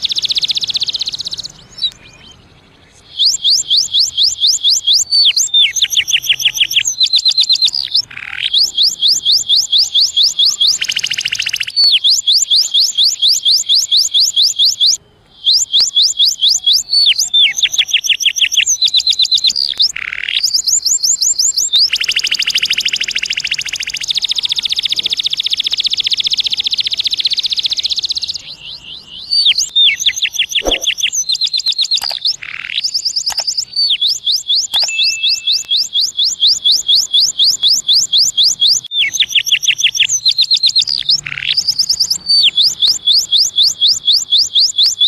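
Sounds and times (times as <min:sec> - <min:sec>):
canary singing trills: 0:00.0 - 0:45.0.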